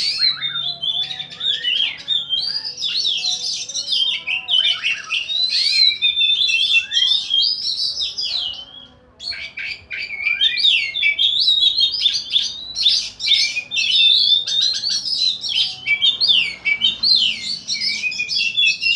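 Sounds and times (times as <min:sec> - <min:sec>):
songbirds singing: 0:00.0 - 0:18.9.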